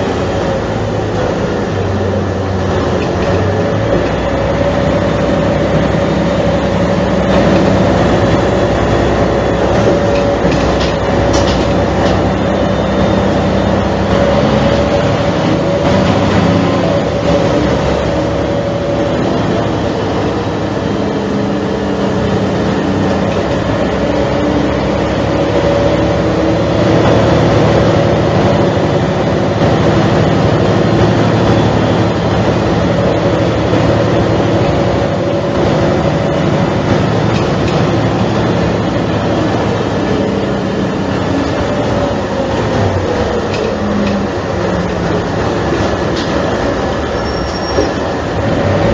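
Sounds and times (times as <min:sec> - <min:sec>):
bus diesel engine droning: 0:00.0 - 0:48.9.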